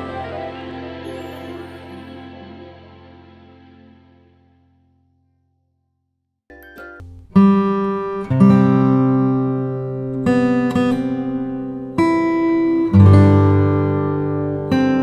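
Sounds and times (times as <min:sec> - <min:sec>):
acoustic guitar strumming chords: 0:00.0 - 0:04.6, 0:07.1 - 0:15.0.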